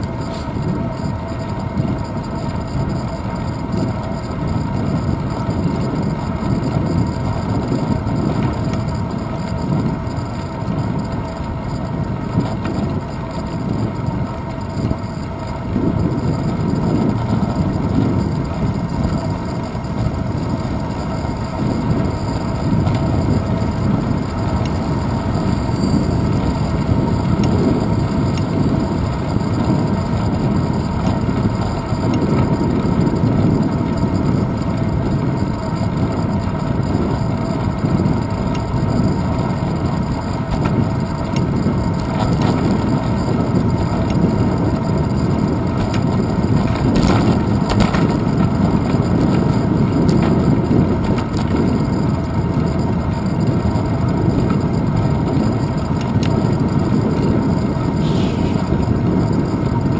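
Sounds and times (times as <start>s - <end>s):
bicycle road rumble: 0.0s - 59.9s
wind buffeting microphone: 0.0s - 59.9s.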